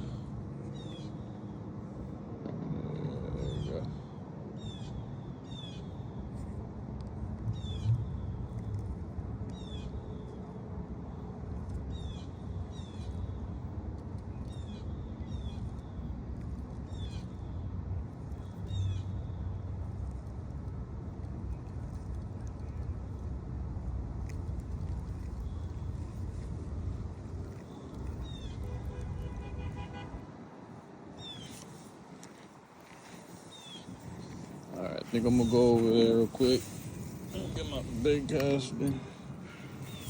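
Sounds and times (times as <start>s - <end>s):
wind rumble on microphone: 0.0s - 40.0s.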